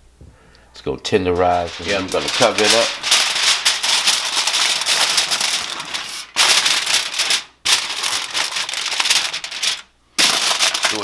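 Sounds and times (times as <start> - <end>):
aluminium foil crinkling: 1.1 - 11.0.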